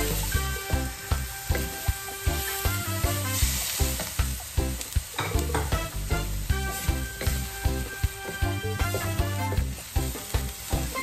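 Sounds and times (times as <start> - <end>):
wooden spatula stirring: 0.0 - 5.8, 6.5 - 11.0
background music with beat: 0.0 - 11.0
food sizzling in a wok: 0.0 - 11.0.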